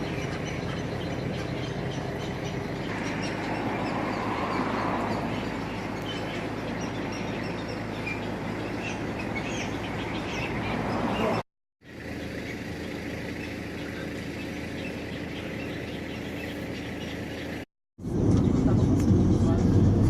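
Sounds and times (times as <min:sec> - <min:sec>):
birds chirping: 0:00.0 - 0:17.7
low engine-like hum: 0:00.0 - 0:20.0.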